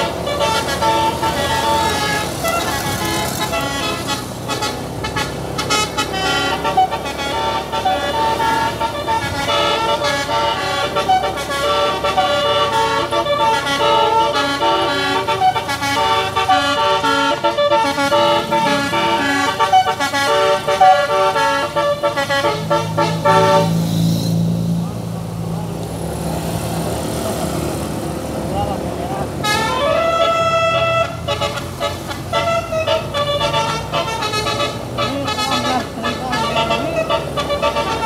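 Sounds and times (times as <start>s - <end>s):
bus horn playing a melody: 0.0s - 23.9s, 29.0s - 38.0s.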